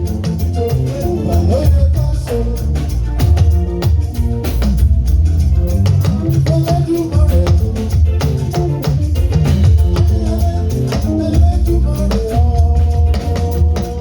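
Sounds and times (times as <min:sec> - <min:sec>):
hand percussion and shakers: 0:00.0 - 0:14.0
heavy bass line: 0:00.0 - 0:14.0
melodic guitar or keyboard lines: 0:00.0 - 0:14.0.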